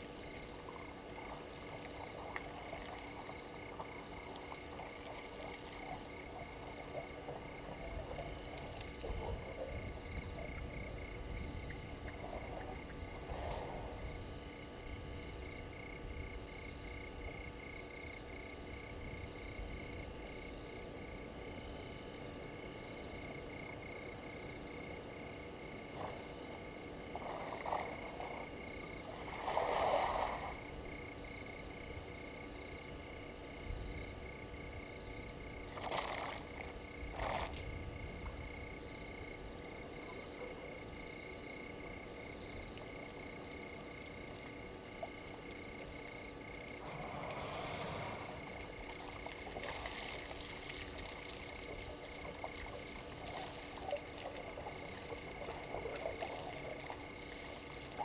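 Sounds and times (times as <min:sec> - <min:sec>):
pulsing insect trill: 0:00.0 - 0:58.0.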